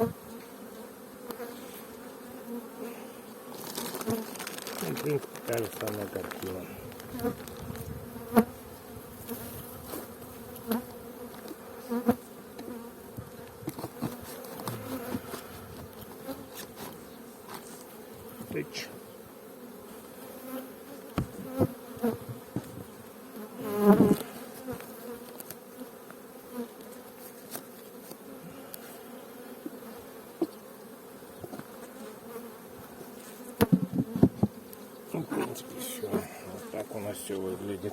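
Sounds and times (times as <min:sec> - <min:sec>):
honeybees buzzing: 0:00.0 - 0:37.9.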